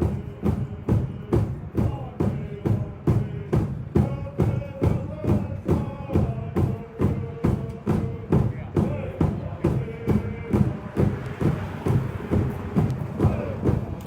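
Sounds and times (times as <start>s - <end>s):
drum beaten steadily: 0.0s - 14.0s.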